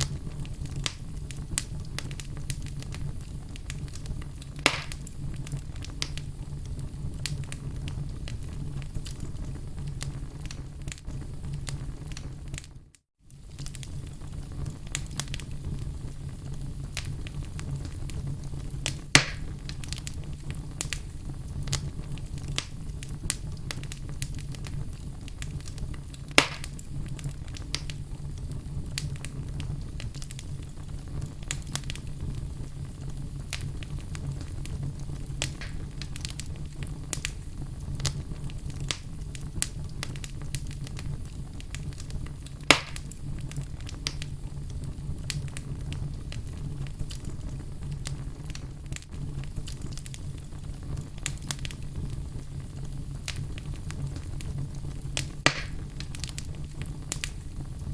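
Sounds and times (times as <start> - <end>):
fire rumbling and crackling: 0.0 - 57.9
loud sharp pops of fire: 0.0 - 57.9.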